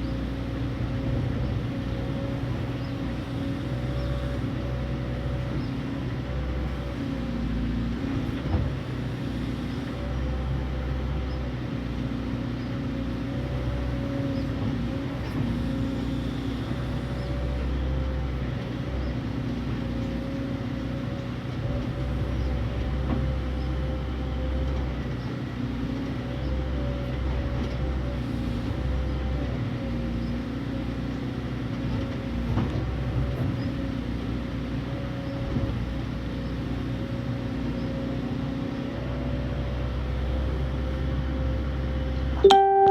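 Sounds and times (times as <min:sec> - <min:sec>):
excavator diesel engine running: 0:00.0 - 0:42.8.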